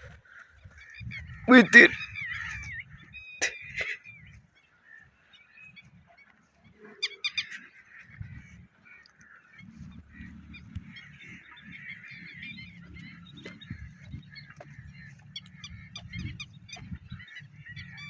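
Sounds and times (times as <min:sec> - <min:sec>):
birds calling and chattering: 0:00.0 - 0:18.0
sharp bird calls: 0:00.0 - 0:18.0.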